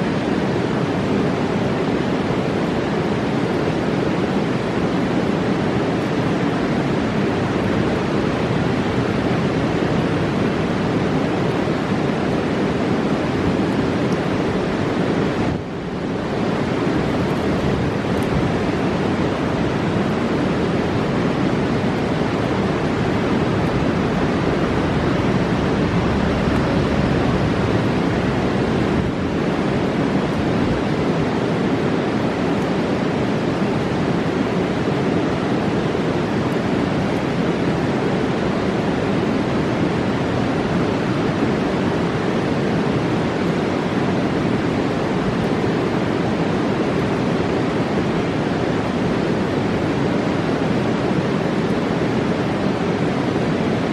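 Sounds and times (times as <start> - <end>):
river rushing: 0.0 - 53.9.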